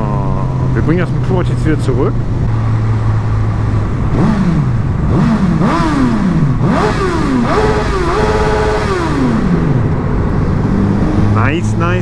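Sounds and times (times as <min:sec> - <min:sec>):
motorcycle engine revving: 0:02.1 - 0:12.0.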